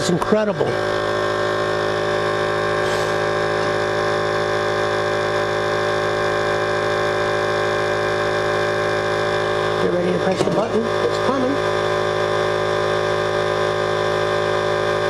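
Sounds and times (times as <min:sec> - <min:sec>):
electric vacuum pump humming: 0:00.0 - 0:15.0.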